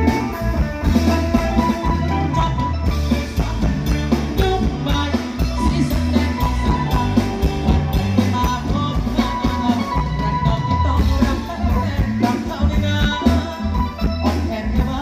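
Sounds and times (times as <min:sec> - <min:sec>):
electric bass: 0:00.0 - 0:15.0
electric guitar: 0:00.0 - 0:15.0
man singing: 0:00.0 - 0:15.0
steady drum beat: 0:00.0 - 0:15.0.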